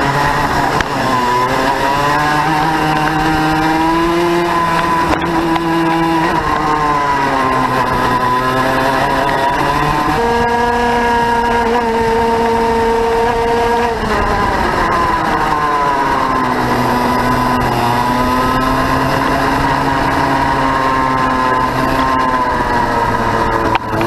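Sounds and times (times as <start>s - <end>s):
kart engine at racing speed: 0.0s - 24.0s.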